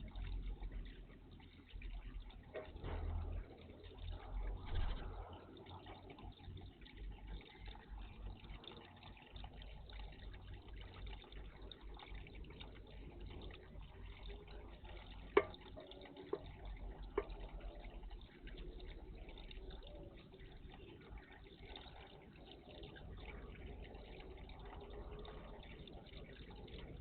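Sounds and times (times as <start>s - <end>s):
water splashing and trickling: 0.0s - 27.0s.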